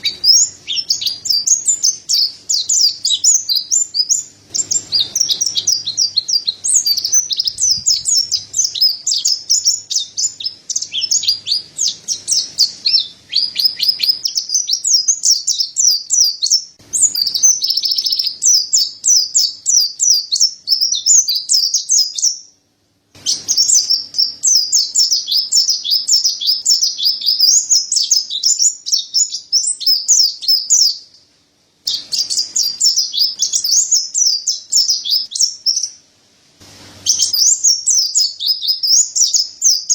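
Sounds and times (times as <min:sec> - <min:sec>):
bird twittering song: 0:00.0 - 0:22.6, 0:23.2 - 0:31.3, 0:31.9 - 0:36.0, 0:37.0 - 0:39.9.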